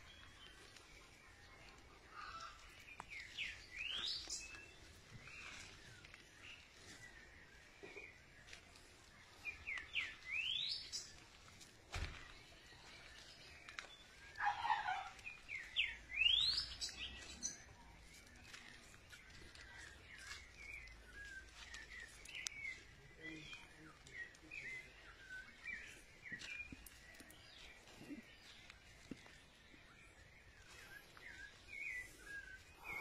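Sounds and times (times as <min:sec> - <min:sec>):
birds chirping rapidly: 0:00.0 - 0:33.0.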